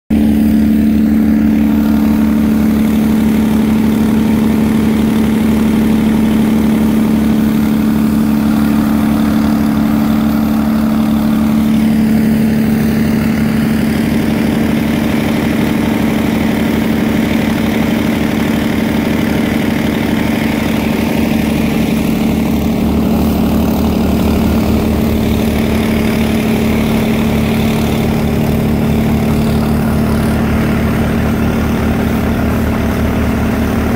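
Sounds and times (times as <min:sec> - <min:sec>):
crane engine humming: 0:00.1 - 0:33.9.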